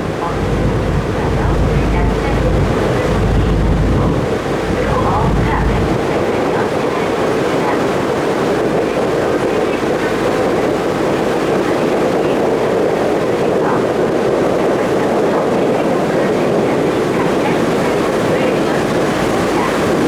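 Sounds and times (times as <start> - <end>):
ferry engine drone: 0.0 - 20.0
rushing water: 0.0 - 20.0
wind: 0.0 - 20.0.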